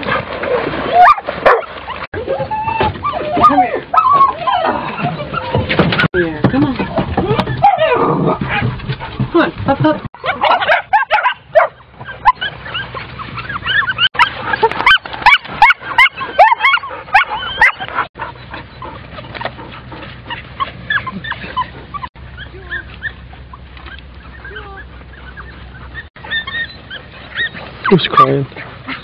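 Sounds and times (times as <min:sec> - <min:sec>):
puppies whining and yipping: 0:00.4 - 0:06.1, 0:06.9 - 0:08.7, 0:10.2 - 0:29.0.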